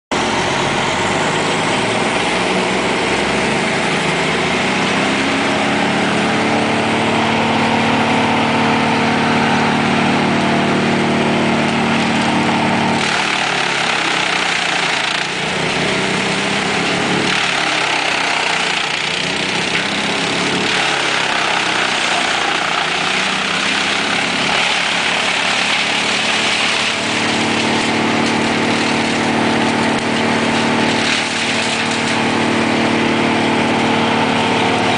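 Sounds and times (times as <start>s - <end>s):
wood chipper engine running: 0.1s - 34.9s
branches fed into chipper: 1.8s - 34.9s.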